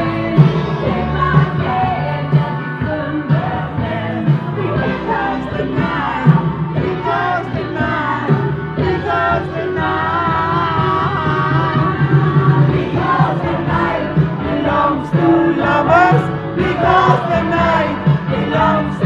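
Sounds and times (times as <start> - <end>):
rock song with singing: 0.0 - 19.0.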